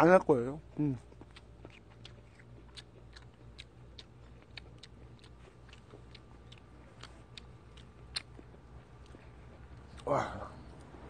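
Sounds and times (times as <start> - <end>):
low steady hum: 0.0 - 11.0
person chewing food: 1.0 - 11.0.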